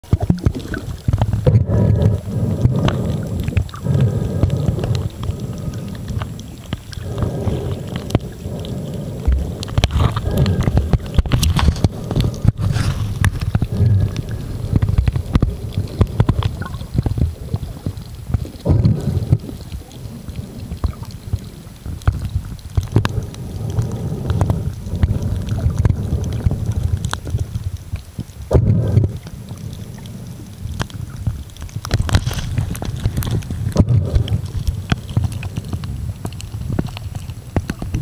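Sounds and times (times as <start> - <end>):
underwater rumble of moving water: 0.0 - 38.0.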